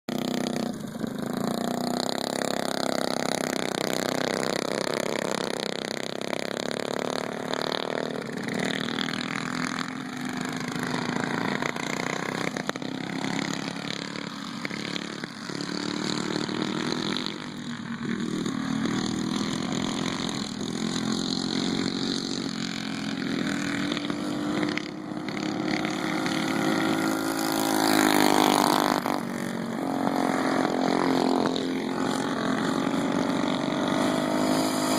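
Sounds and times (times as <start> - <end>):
mini bike engines racing: 0.1 - 34.9.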